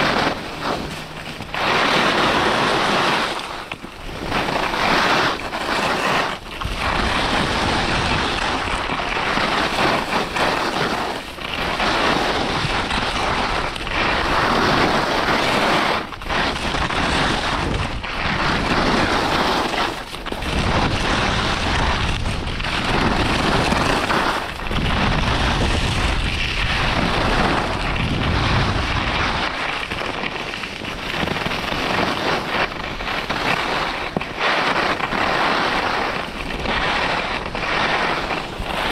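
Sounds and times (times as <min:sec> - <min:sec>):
skis scraping over snow: 0:00.0 - 0:38.9
wind buffeting microphone: 0:00.0 - 0:38.9.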